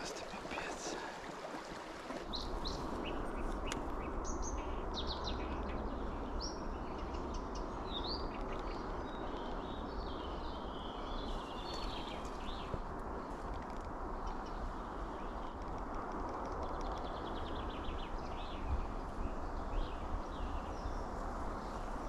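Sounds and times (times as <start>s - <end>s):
small birds chirping: 2.2s - 22.0s.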